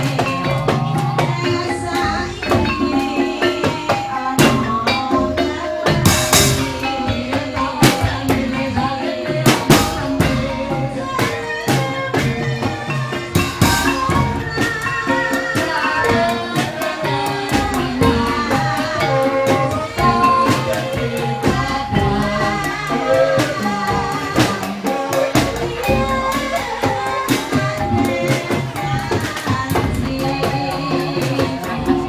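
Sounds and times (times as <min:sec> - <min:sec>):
drums and tuned percussion: 0:00.0 - 0:32.0
person singing: 0:00.0 - 0:32.0.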